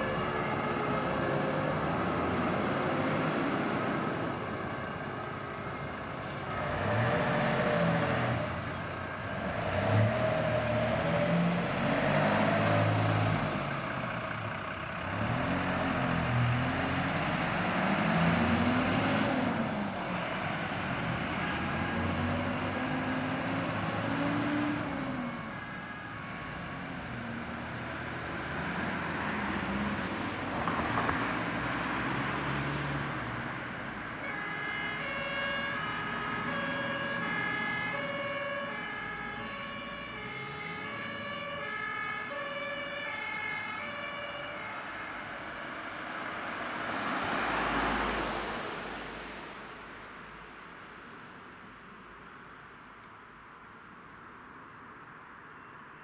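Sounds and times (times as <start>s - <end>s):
diesel engines revving: 0.0s - 50.3s.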